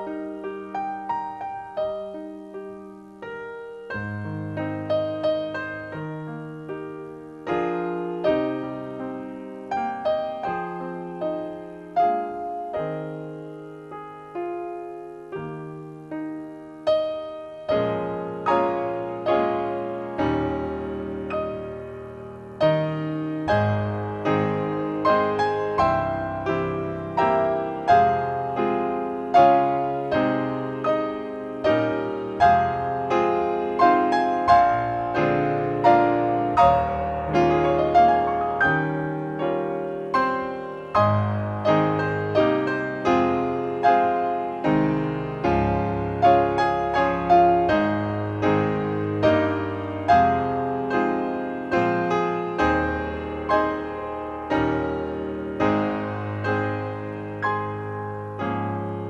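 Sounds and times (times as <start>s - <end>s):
slow solo piano piece: 0.0s - 59.0s.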